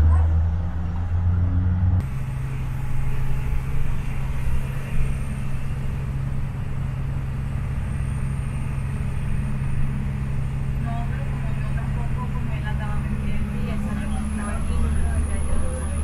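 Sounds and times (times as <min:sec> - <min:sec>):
minibus engine drone: 0:00.0 - 0:16.0
road noise: 0:00.0 - 0:16.0.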